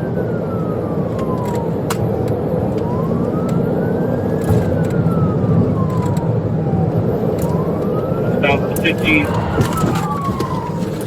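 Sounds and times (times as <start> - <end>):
car driving at high speed: 0.0 - 11.0
police siren wailing: 0.0 - 11.0.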